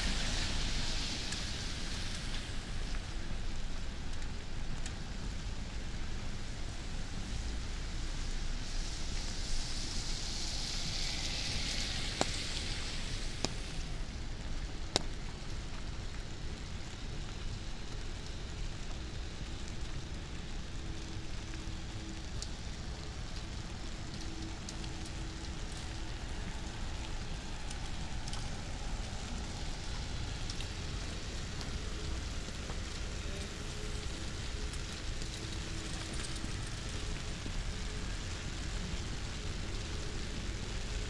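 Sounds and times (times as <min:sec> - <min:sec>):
rain on wet pavement: 0:00.0 - 0:41.0.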